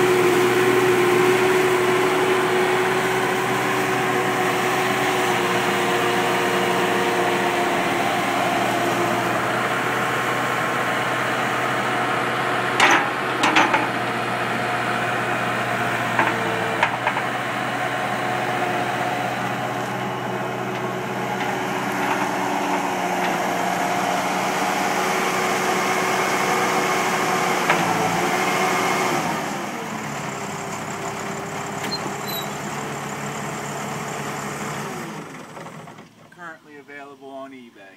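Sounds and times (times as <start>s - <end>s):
diesel engine running: 0.0s - 36.3s.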